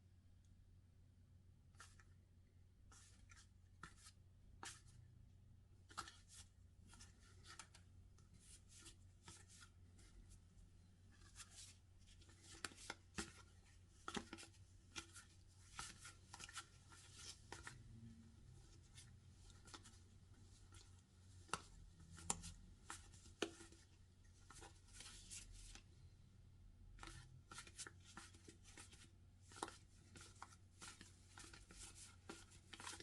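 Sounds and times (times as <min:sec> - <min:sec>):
low steady hum: 0:00.0 - 0:31.5.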